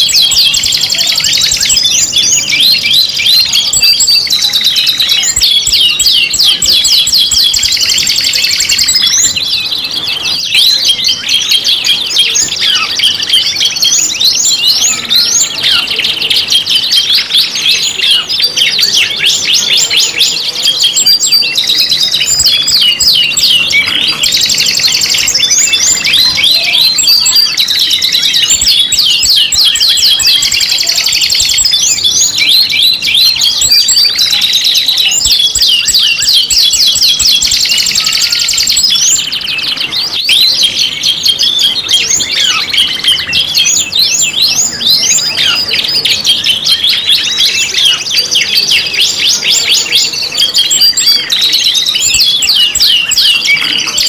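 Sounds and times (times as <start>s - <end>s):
canaries singing trills and chirps: 0.0s - 54.0s.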